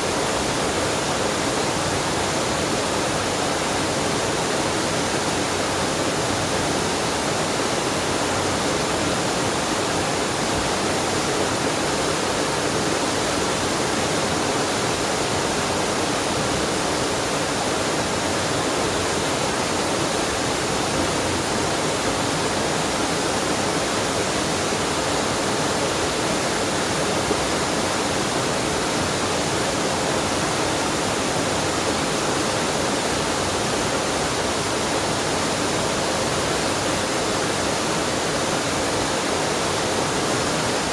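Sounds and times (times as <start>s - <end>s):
waterfall and stream rushing: 0.0s - 40.9s.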